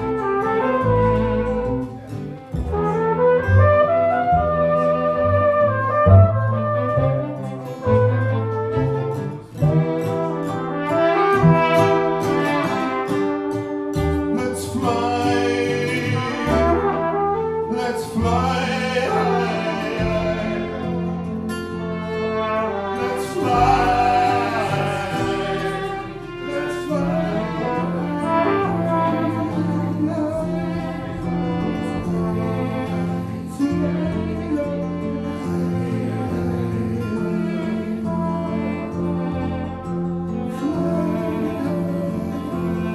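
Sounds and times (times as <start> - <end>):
flugelhorn melody: 0.0 - 42.9
plucked double bass: 0.0 - 42.9
strummed acoustic guitar: 0.0 - 42.9
violin: 0.0 - 42.9.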